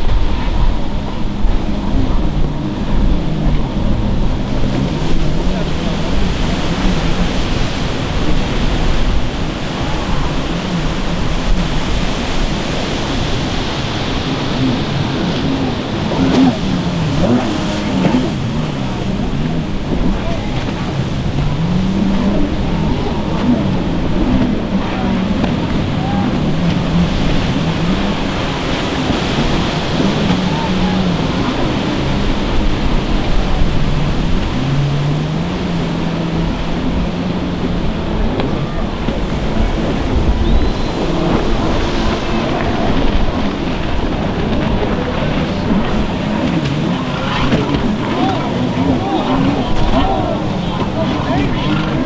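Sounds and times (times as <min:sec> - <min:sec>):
distant jet ski engine: 0:00.0 - 0:52.0
waves breaking: 0:00.0 - 0:52.0
wind buffeting microphone: 0:00.0 - 0:52.0.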